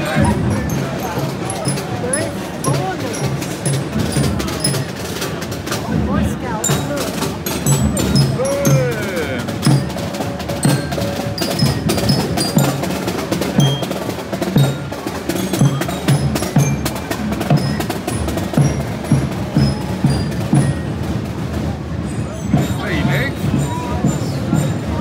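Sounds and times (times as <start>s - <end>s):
drums beating a march: 0.0s - 25.0s
snare drum rolls: 0.0s - 25.0s.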